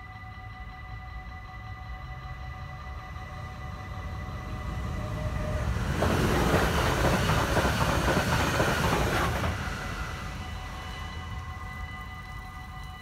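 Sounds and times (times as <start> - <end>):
crossing warning bells: 0.0 - 13.0
train wheel and rail noise: 0.0 - 13.0.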